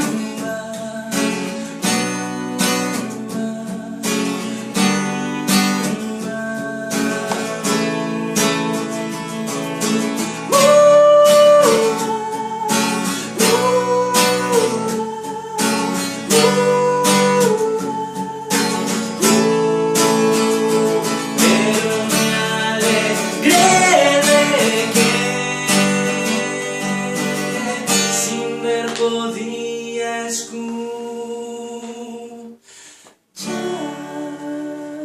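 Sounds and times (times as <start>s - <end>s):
held guitar melody notes: 0.0s - 32.2s
acoustic guitar strumming: 0.0s - 35.0s.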